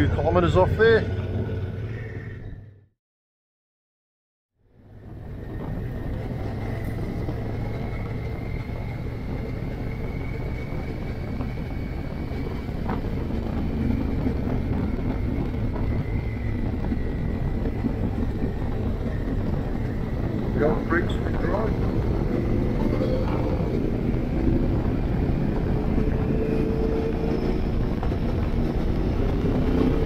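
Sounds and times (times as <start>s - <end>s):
wind noise on microphone: 4.8s - 30.0s.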